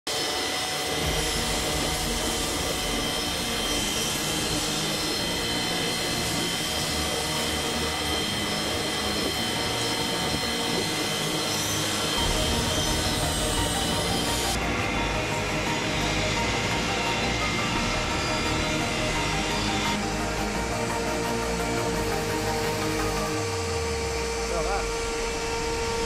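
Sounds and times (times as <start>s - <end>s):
mechanical hum: 0.1s - 26.0s
spindle motors whining: 0.1s - 26.0s.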